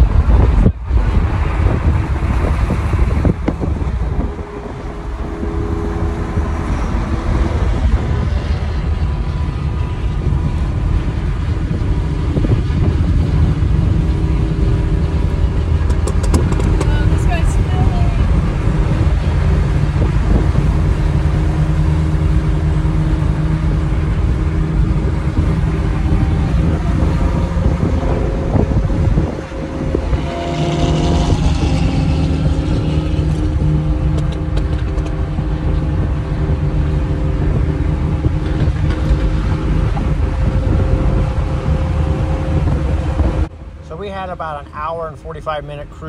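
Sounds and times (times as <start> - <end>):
car engine drone and road noise: 0.0 - 46.0.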